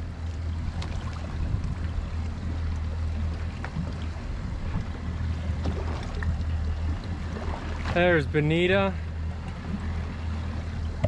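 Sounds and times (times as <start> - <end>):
outboard engines idling: 0.0 - 11.0
water and wind noise: 0.0 - 11.0.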